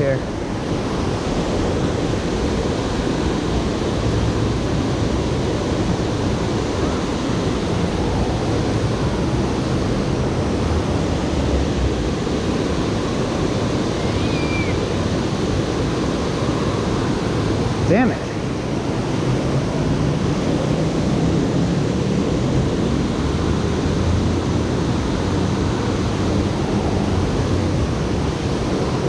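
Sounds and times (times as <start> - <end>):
water rushing over spillway: 0.0 - 29.0.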